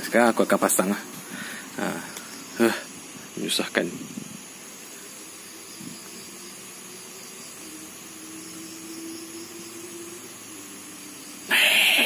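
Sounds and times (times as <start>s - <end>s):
faint steady hum: 0.0s - 12.0s
outdoor ambient hiss: 0.0s - 12.0s.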